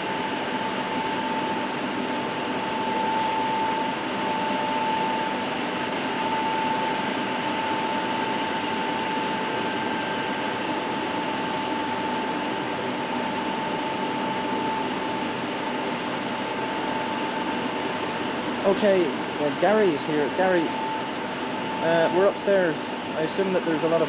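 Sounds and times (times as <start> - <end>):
cooling blowers and equipment din: 0.0 - 24.0.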